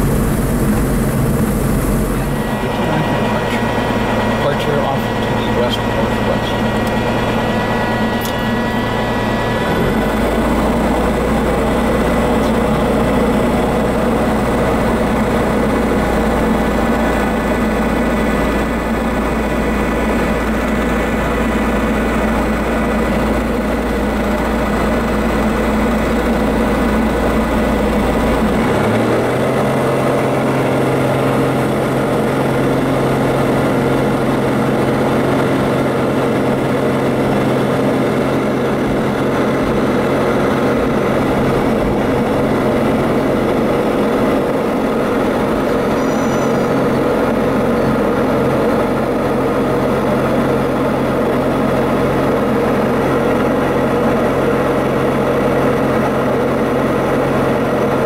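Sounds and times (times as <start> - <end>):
propeller plane engine running: 0.0 - 58.0.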